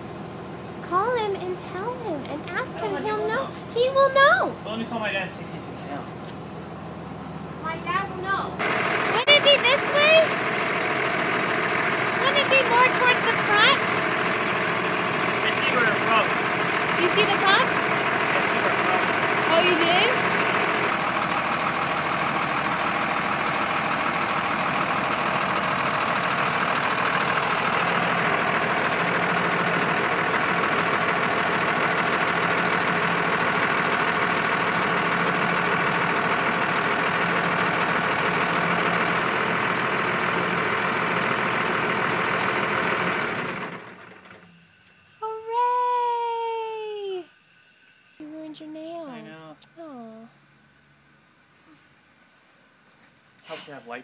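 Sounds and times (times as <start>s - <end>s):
bus engine idling: 0.0s - 47.2s.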